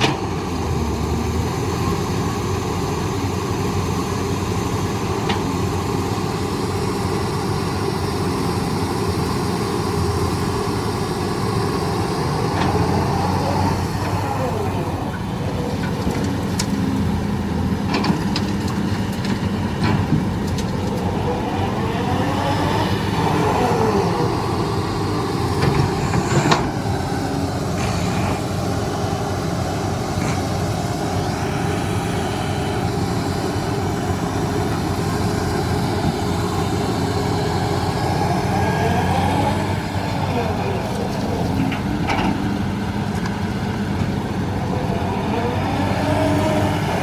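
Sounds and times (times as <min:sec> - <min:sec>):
heavy machinery engine running: 0:00.0 - 0:47.0.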